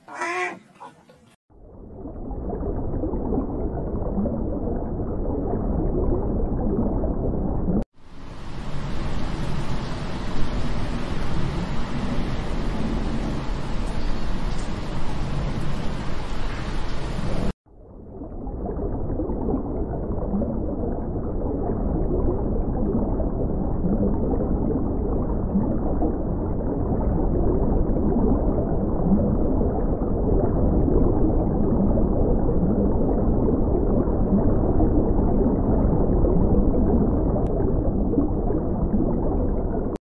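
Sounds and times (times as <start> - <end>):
muffled underwater rumble: 1.5 - 15.8, 17.2 - 40.0.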